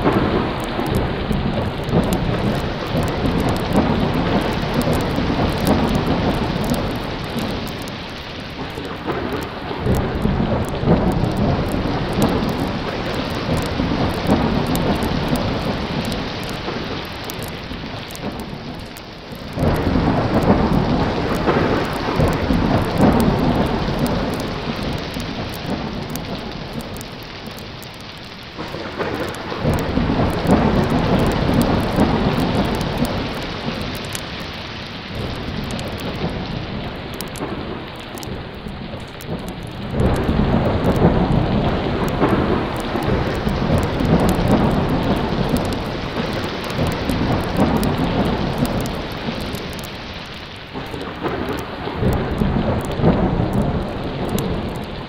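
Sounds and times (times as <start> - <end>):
heavy rain: 0.0 - 55.0
thunder rolling: 0.0 - 55.0.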